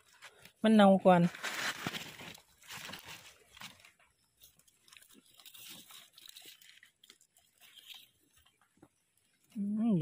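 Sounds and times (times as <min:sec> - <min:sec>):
leaf litter rustling: 0:00.0 - 0:09.6.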